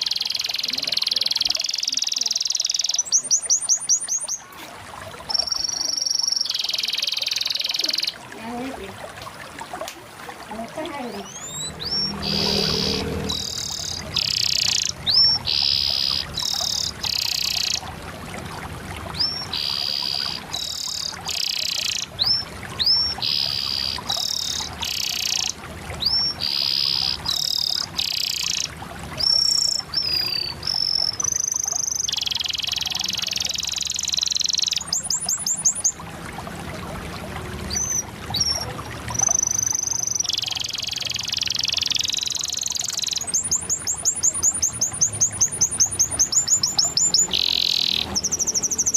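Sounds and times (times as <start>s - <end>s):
canary singing: 0.0s - 4.4s, 5.3s - 8.2s, 10.9s - 17.9s, 19.2s - 36.0s, 37.7s - 48.9s.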